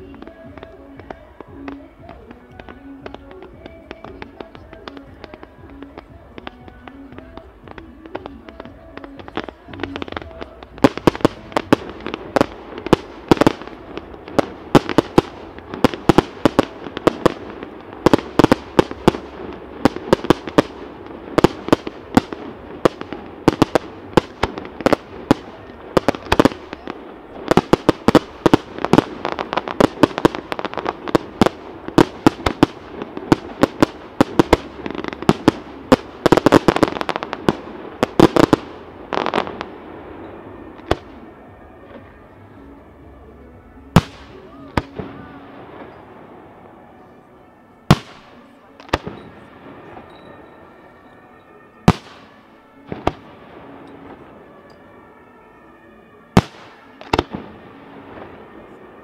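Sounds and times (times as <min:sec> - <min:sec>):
fireworks bursting with loud bangs: 0:00.0 - 0:55.4, 0:56.2 - 0:59.0.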